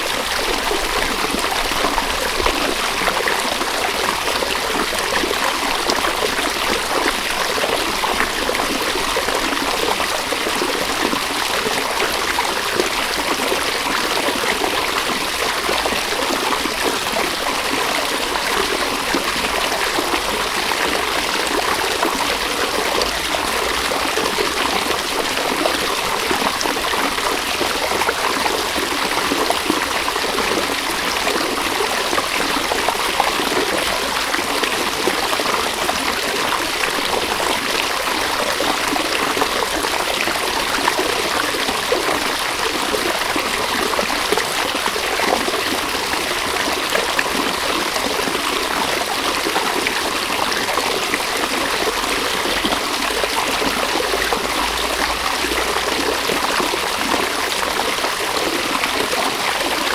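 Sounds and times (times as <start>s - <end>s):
river babbling over stones: 0.0s - 59.9s.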